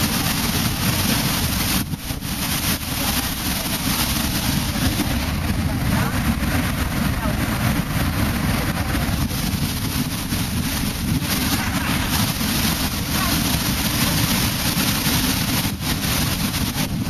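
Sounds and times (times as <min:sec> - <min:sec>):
waterfall roaring: 0:00.0 - 0:17.0
wind buffeting microphone: 0:00.0 - 0:17.0.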